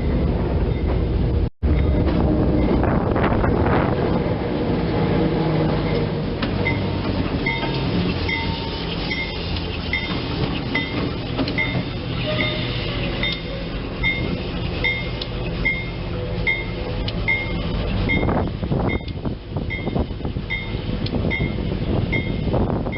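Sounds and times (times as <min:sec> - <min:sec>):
train rumbling: 0:00.0 - 0:22.9.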